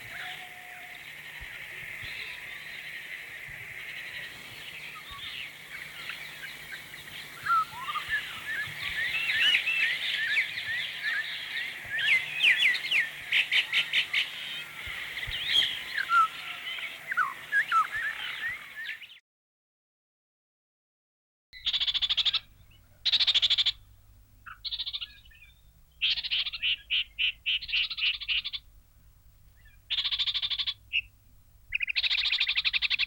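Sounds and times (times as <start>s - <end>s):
steady high hiss: 0.0s - 19.0s, 22.4s - 33.0s
small birds chirping: 0.0s - 19.2s, 21.6s - 28.7s, 29.5s - 33.0s.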